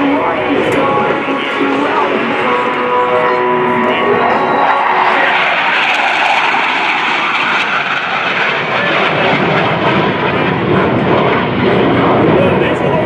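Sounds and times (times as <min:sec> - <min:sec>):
jet roar overhead: 0:00.0 - 0:13.0.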